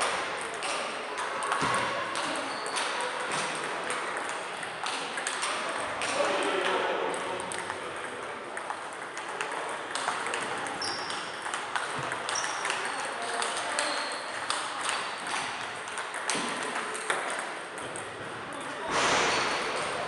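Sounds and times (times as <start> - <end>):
table tennis balls clicking: 0.0 - 6.4, 7.1 - 18.8.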